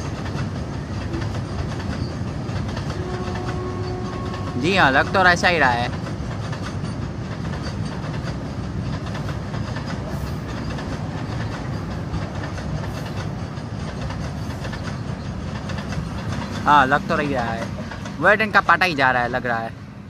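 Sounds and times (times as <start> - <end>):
train wheels rolling on track: 0.0 - 20.0.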